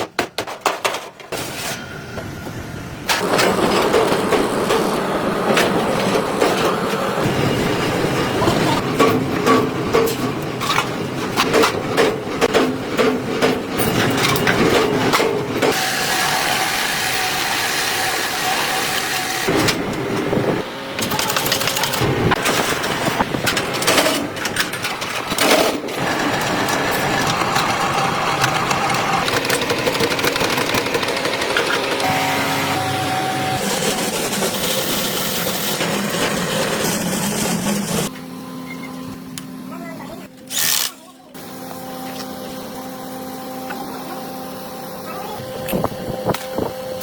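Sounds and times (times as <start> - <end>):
machine running: 2.0 - 47.0.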